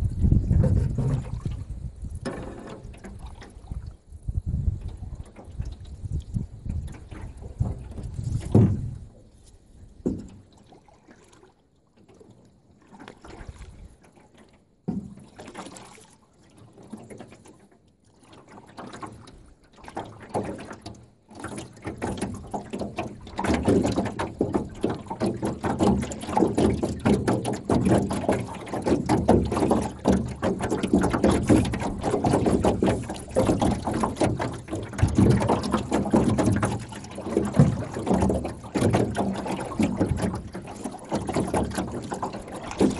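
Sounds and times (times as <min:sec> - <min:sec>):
paddle splashes: 0:00.0 - 0:42.9
wind and water against hull: 0:00.0 - 0:42.9.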